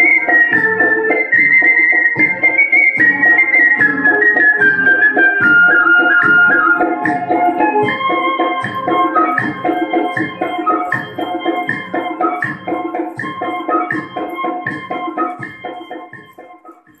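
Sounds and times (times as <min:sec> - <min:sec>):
dance music with steady beat: 0:00.0 - 0:17.0.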